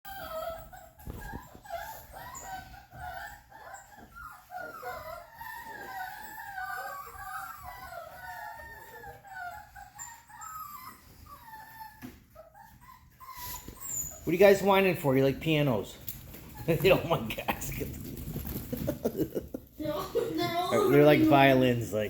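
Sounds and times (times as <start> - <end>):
puppies whining and crying: 0.1 - 22.0.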